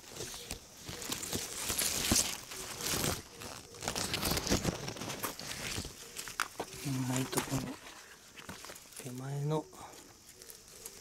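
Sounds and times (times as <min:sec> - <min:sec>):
leaves rustling and crinkling: 0:00.0 - 0:11.0.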